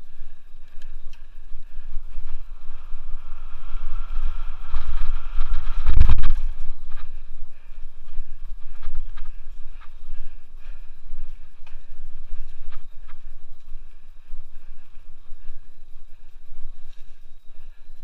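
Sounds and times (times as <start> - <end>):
bike clicking and rattling: 0.0 - 18.0
wind rumbling on microphone: 0.0 - 18.0.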